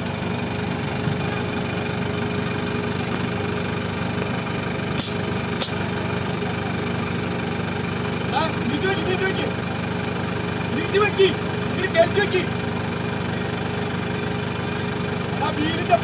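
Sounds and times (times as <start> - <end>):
jeep engine running at low revs: 0.0 - 16.0.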